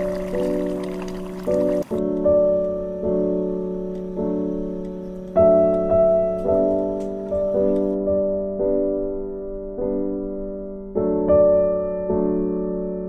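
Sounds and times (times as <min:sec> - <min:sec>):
slow soft piano chords: 0:00.0 - 0:13.0.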